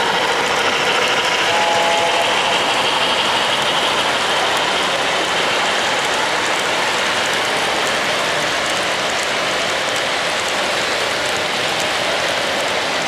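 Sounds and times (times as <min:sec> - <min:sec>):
model train wheels rattling: 0:00.0 - 0:13.0.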